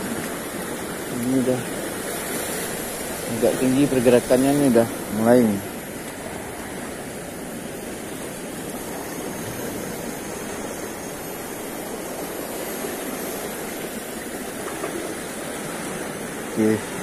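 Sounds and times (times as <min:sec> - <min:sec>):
sea water washing around rocks: 0:00.0 - 0:17.0.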